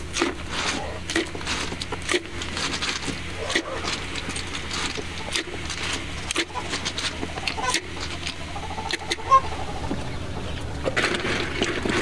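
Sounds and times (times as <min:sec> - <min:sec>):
wood fire popping and crackling: 0:00.0 - 0:08.4, 0:10.6 - 0:12.0.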